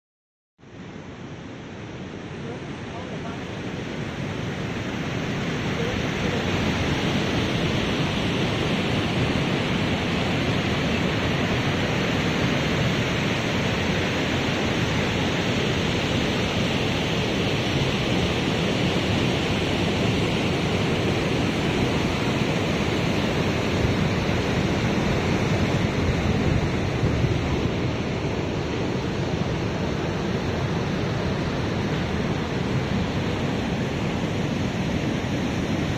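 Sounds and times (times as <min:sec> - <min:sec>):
river water tumbling over weir: 0:00.7 - 0:35.9.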